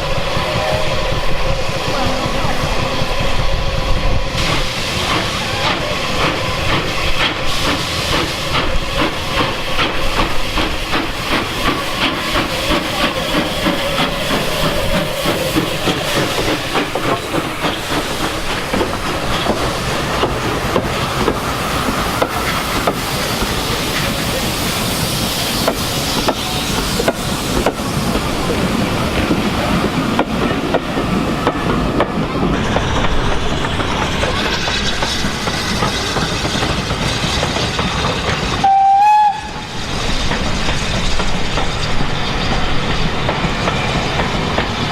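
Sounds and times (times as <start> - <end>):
steam hissing: 0.0 - 44.9
steam locomotive exhaust beats: 0.0 - 44.9.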